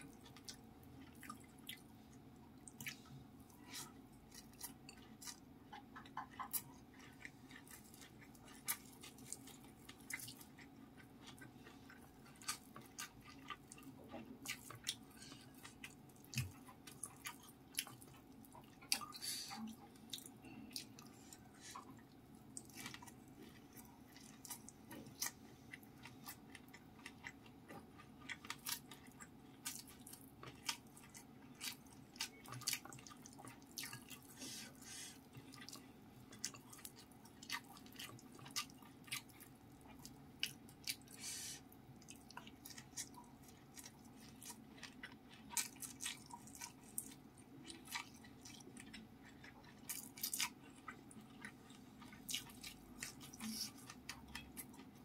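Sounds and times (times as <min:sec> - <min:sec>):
faint steady hum: 0:00.0 - 0:55.0
wet mouth clicks and chewing: 0:02.6 - 0:34.3, 0:35.2 - 0:41.2, 0:42.0 - 0:55.0.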